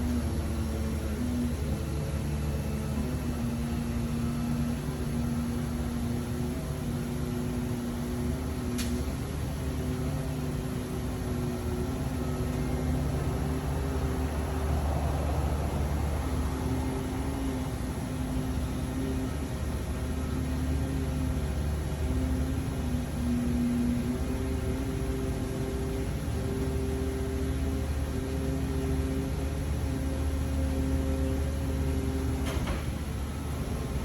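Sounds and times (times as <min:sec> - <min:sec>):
machine hum over low rumble: 0:00.0 - 0:34.0.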